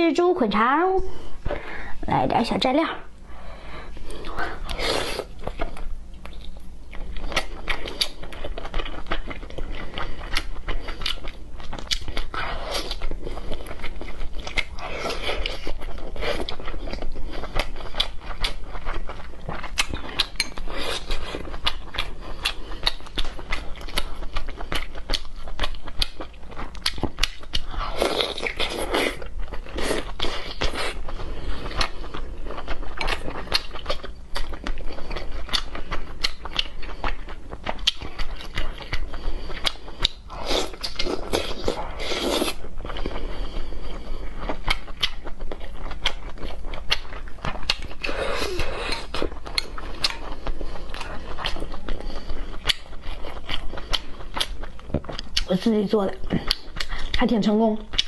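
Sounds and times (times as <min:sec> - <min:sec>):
wet chewing and biting: 0:04.1 - 0:58.0.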